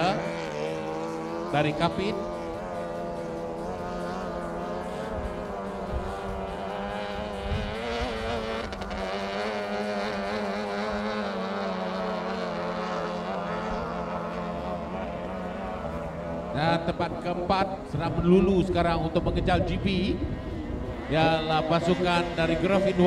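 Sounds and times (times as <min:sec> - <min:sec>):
outboard motor buzzing: 0:00.0 - 0:23.0.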